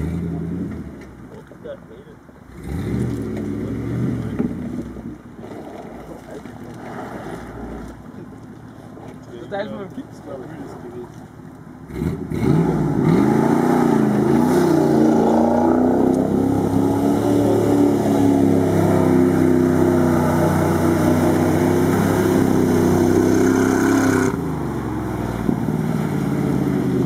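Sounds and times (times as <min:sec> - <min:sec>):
engine pulling through water: 0:00.0 - 0:27.0
water splashing around tyres: 0:02.5 - 0:27.0.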